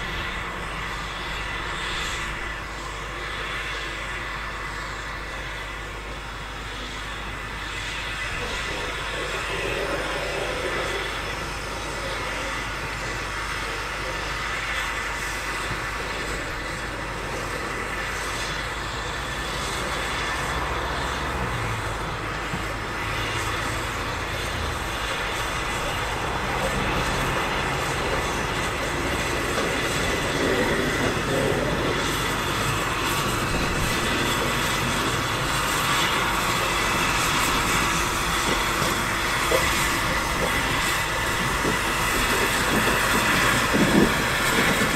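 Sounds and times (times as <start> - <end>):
steam locomotive approaching: 0.0 - 44.9.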